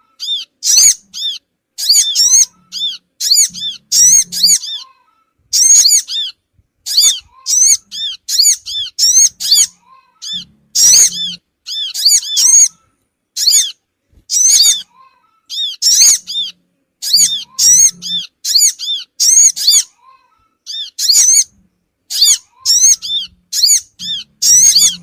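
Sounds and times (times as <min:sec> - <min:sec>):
sunbirds chirping: 0:00.0 - 0:25.0.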